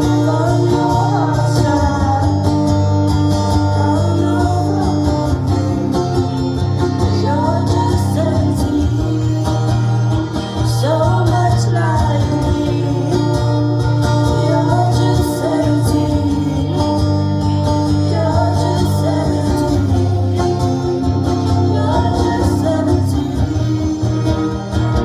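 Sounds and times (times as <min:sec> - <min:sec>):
acoustic guitar: 0:00.0 - 0:25.0
person singing: 0:00.0 - 0:25.0.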